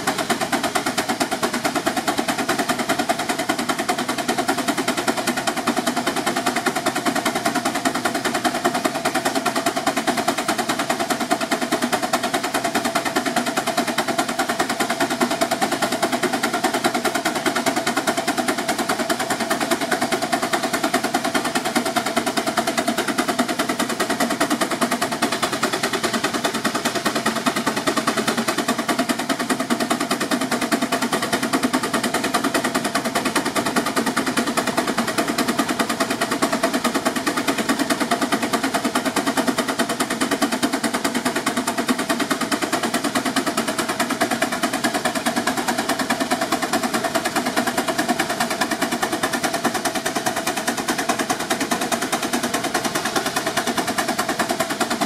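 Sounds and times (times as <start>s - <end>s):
steam engine exhaust beating: 0.0s - 55.0s.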